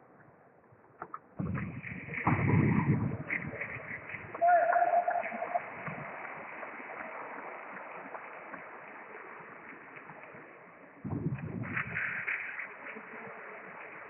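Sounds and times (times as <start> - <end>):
large hall background noise: 1.0 - 14.0.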